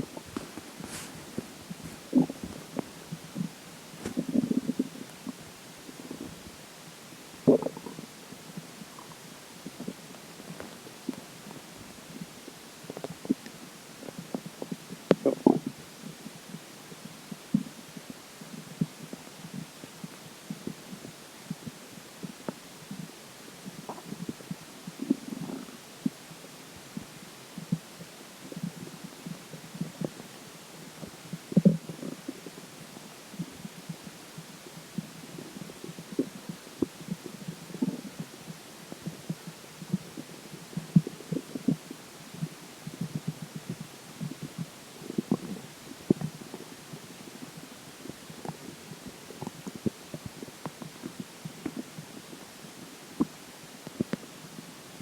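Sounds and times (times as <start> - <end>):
stomach gurgling: 0.0 - 55.0.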